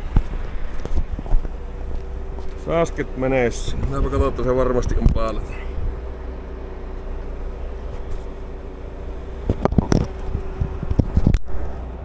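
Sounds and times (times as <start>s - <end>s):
diesel engine idling: 0.0s - 12.0s
faint even drone: 0.0s - 12.0s.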